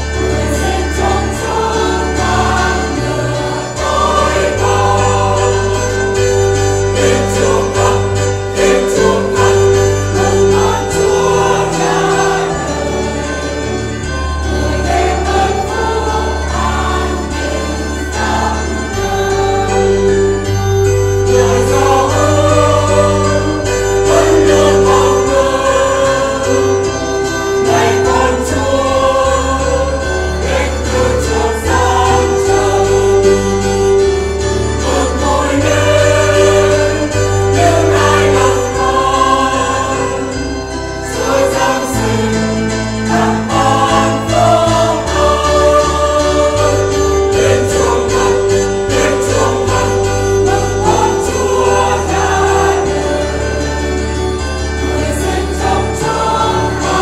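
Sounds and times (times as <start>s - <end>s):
church choir singing a hymn: 0.0s - 57.0s
instrumental accompaniment: 0.0s - 57.0s.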